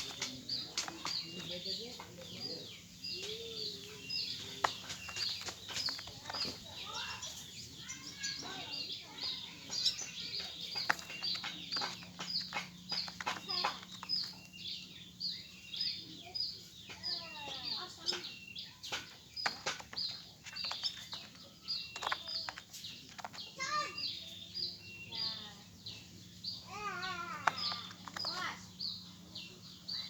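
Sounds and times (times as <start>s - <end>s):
bird chirping: 0.0s - 30.0s
other bird calls: 0.0s - 30.0s.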